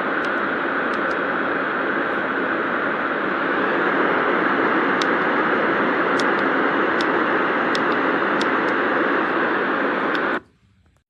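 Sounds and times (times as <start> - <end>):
white noise hiss: 0.0 - 11.0.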